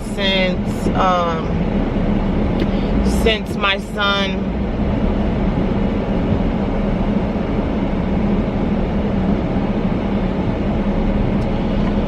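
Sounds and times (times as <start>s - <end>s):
car road and engine rumble: 0.0s - 12.0s
constant low hum: 0.0s - 12.0s.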